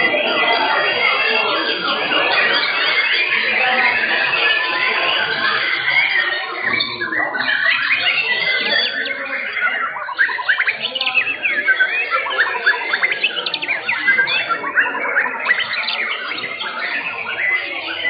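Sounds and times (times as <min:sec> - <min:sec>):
birds singing whistles and chirps: 0:00.0 - 0:18.0.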